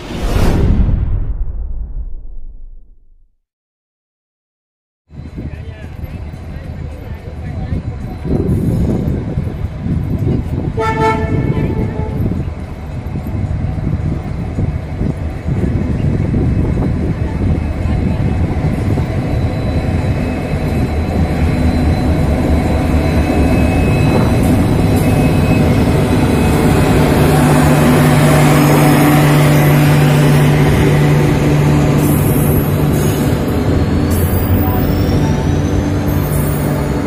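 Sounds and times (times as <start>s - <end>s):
wind buffeting microphone: 5.1s - 36.1s
train wheels on rails: 5.2s - 37.0s
locomotive diesel engine rumble: 5.3s - 37.0s.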